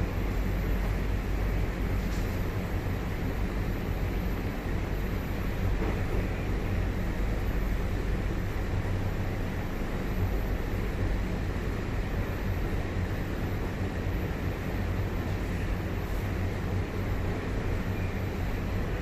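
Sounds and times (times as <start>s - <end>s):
train ventilation hum: 0.0s - 19.0s.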